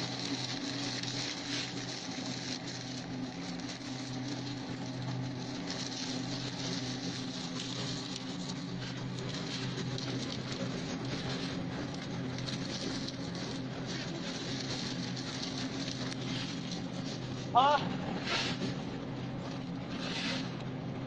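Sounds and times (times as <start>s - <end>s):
branches crackling in shredder: 0.0s - 21.0s
wood shredder motor hum: 0.0s - 21.0s.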